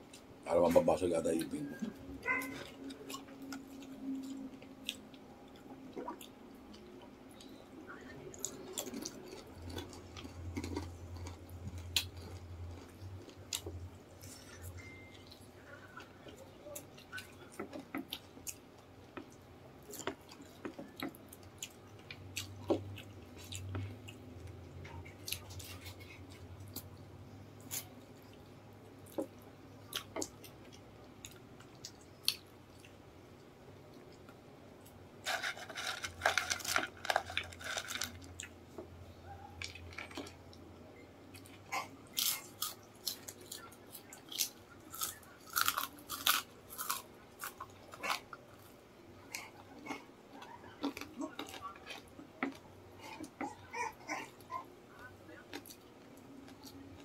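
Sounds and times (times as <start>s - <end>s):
chewing crispy chicken: 1.3s - 33.0s, 33.9s - 40.6s, 41.3s - 57.0s.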